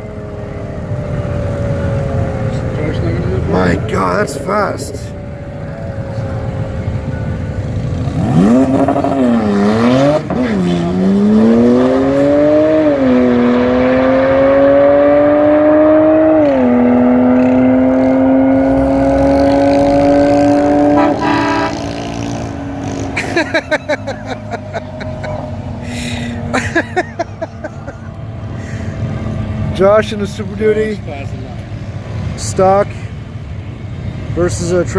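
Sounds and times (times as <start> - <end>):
rough engine pulsing: 0.0 - 14.8, 15.8 - 32.0
car engine accelerating hard: 0.0 - 32.8.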